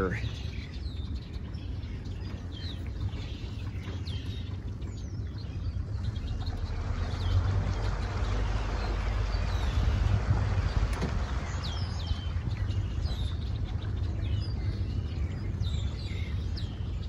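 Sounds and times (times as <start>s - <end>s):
boat engine low rumble: 0.0s - 17.0s
wind: 0.0s - 17.0s.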